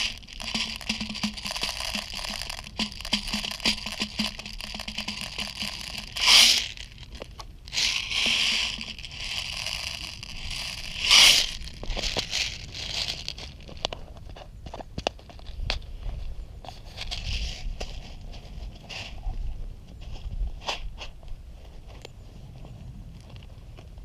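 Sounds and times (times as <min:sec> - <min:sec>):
rustling and crunching: 0:00.0 - 0:24.0.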